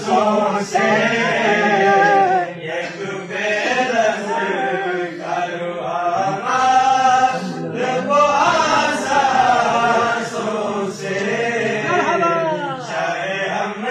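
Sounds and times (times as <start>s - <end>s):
group of voices chanting: 0.0s - 13.9s.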